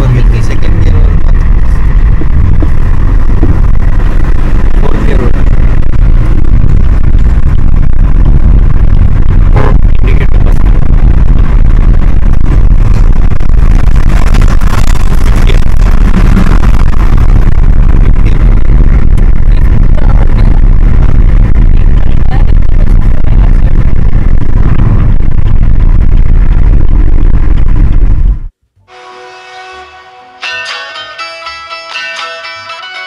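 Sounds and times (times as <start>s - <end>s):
car road and engine rumble: 0.0s - 28.8s.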